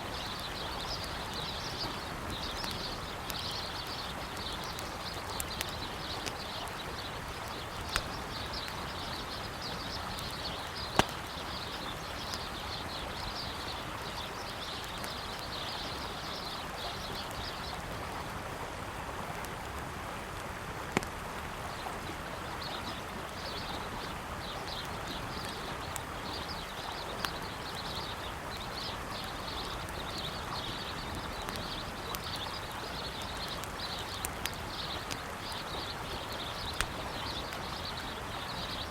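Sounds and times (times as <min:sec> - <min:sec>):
birds chirping: 0:00.0 - 0:17.8, 0:21.6 - 0:38.9
campfire crackling and popping: 0:00.0 - 0:38.9
river flowing: 0:00.0 - 0:38.9.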